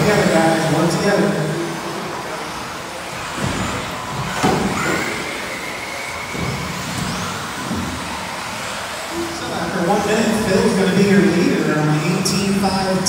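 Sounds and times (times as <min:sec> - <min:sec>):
rc buggy motors whining: 0:00.0 - 0:13.0.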